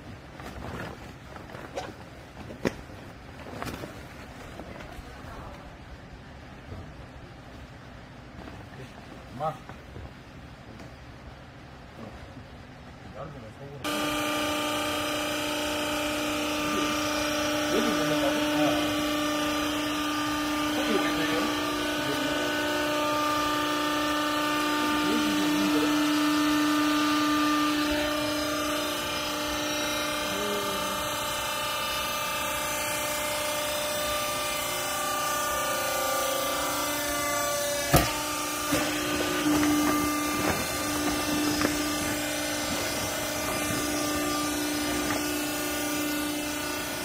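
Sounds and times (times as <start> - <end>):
hydraulic power unit humming: 0.0 - 47.0.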